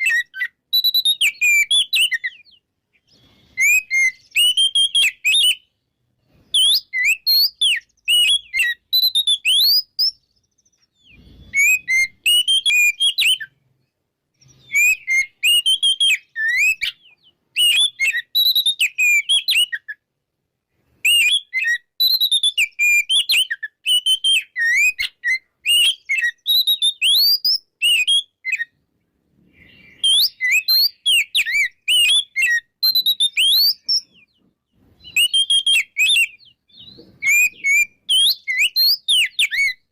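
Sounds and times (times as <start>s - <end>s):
bird singing whistled song: 0.0s - 20.1s, 20.8s - 28.8s, 29.4s - 39.9s.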